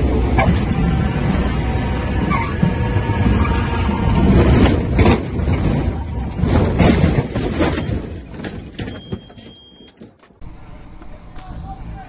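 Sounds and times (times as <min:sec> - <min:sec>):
plane cockpit rumbling and jolting: 0:00.0 - 0:11.9.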